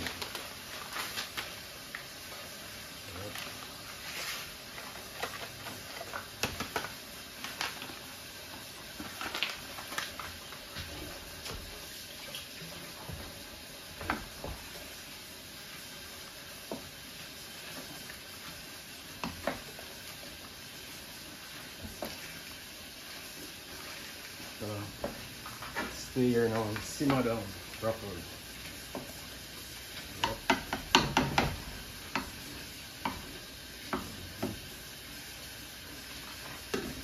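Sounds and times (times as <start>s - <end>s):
soup bubbling: 1.5s - 37.0s.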